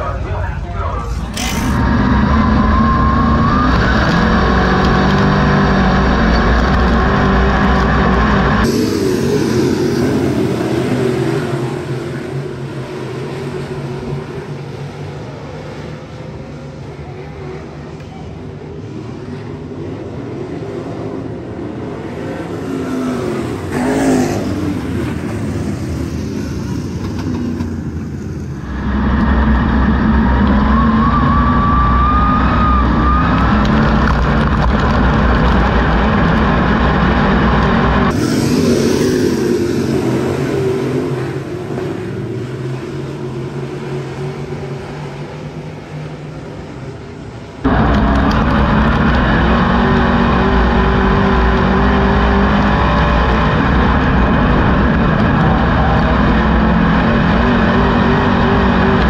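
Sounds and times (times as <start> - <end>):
rising engine whine: 0.0 - 59.0
stock car engines racing: 0.0 - 59.0
loud car engine from inside: 0.8 - 18.2, 18.8 - 59.0.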